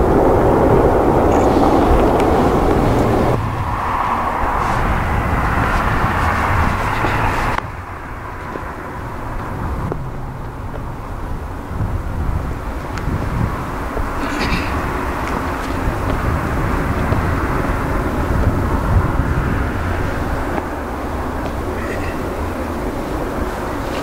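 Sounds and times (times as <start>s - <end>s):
jet airliner engines: 0.0s - 24.0s.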